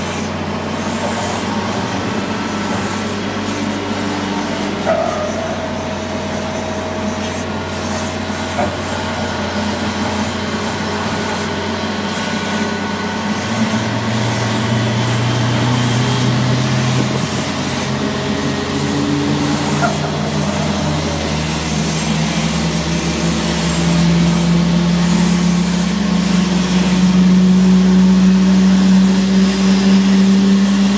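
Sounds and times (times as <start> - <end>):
pushback tug engine under load: 0.0 - 30.9.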